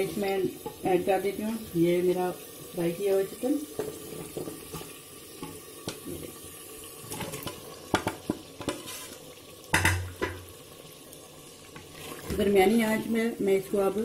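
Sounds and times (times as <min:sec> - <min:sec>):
gravy sizzling: 0:00.0 - 0:14.0.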